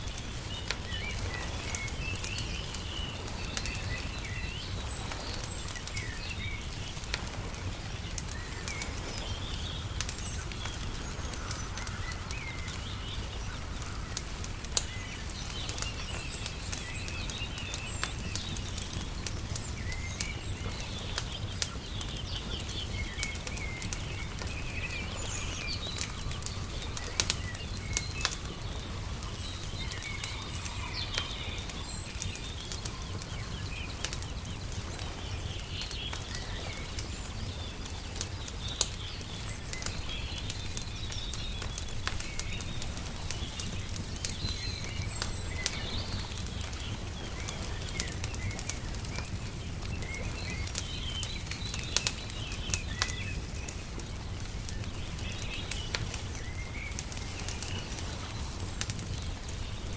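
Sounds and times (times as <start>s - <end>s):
birds chirping: 0.0s - 59.9s
wood fire crackling: 0.0s - 59.9s.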